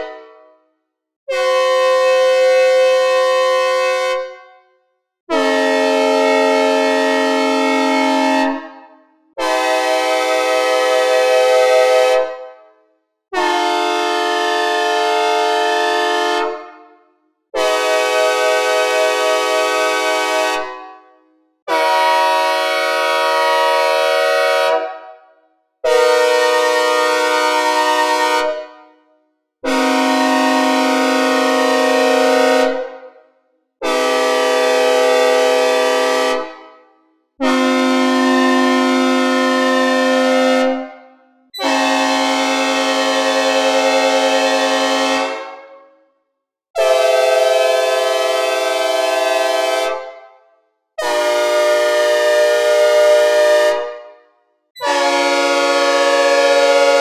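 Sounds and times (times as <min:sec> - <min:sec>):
locomotive air horn blasts: 0:00.0 - 0:00.6, 0:01.3 - 0:04.6, 0:05.3 - 0:12.6, 0:13.4 - 0:33.2, 0:33.8 - 0:36.7, 0:37.4 - 0:45.9, 0:46.8 - 0:50.4, 0:51.0 - 0:54.2, 0:54.8 - 0:57.0.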